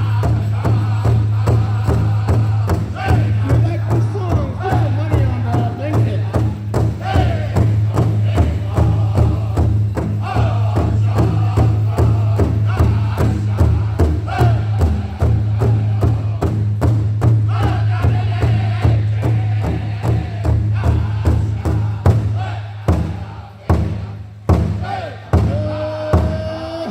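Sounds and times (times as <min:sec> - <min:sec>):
group chanting high phrases: 0:00.0 - 0:16.6, 0:17.4 - 0:26.9
large drum beating: 0:00.0 - 0:26.7.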